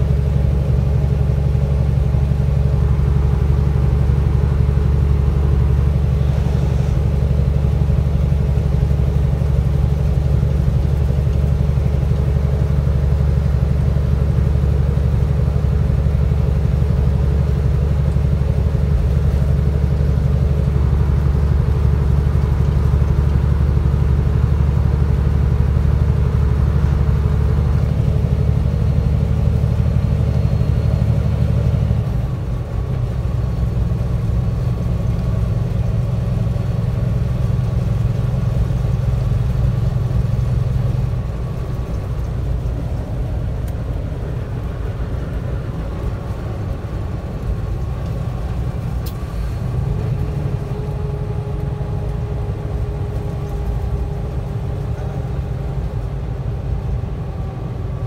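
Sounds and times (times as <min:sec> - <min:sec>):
vehicle engine and road drone: 0:00.0 - 0:58.0.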